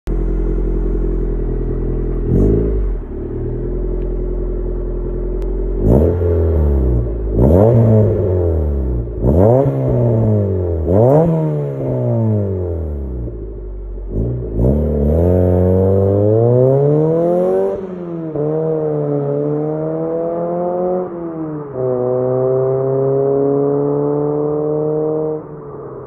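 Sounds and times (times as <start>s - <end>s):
car engine idling and revving: 0.1s - 26.0s.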